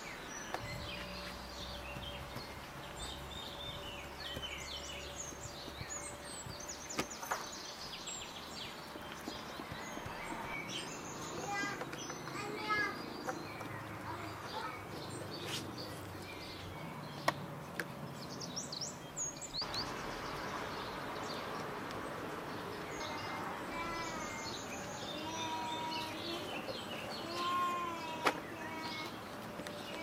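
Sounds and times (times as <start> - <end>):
birds chirping and calling: 0.0 - 30.0
steady outdoor hiss: 0.0 - 30.0.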